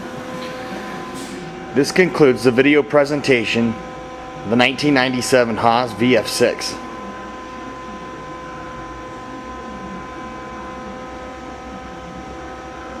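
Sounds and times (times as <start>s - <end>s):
machinery hum with whining tones: 0.0s - 13.0s.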